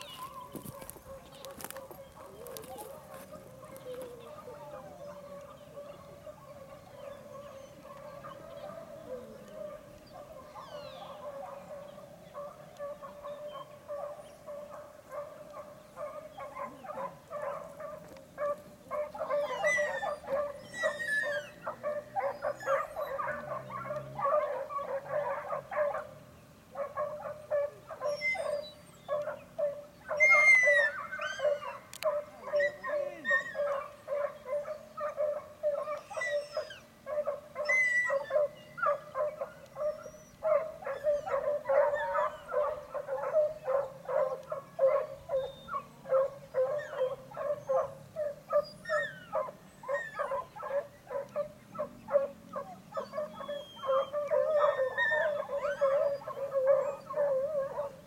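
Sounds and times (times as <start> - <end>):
hunting dogs baying and yelping: 0.0 - 58.0.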